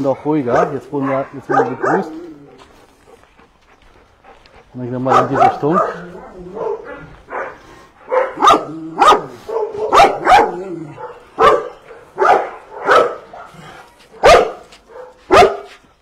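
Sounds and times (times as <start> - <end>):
dogs barking: 0.4 - 15.8.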